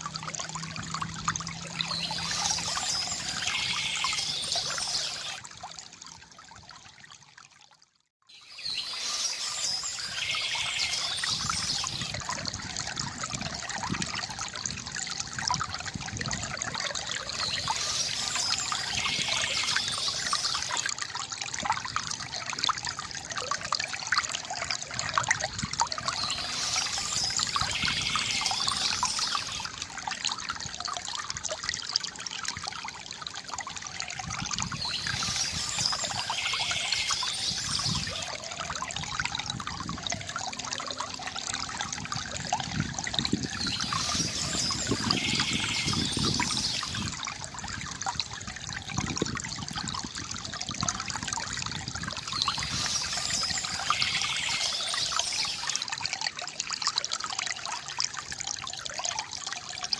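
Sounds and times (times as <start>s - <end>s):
higher water rush: 0.0s - 5.5s, 8.6s - 22.3s, 25.6s - 31.4s, 32.7s - 49.2s, 49.9s - 58.4s
bamboo fountain water trickling: 0.0s - 59.9s.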